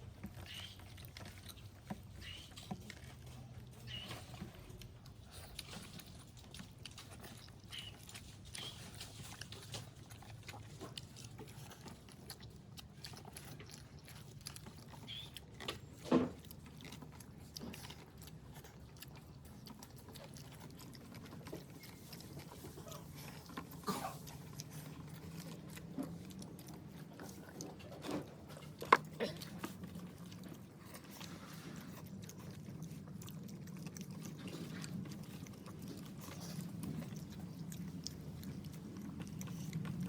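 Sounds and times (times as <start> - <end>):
people chewing and smacking lips: 0.0 - 40.0.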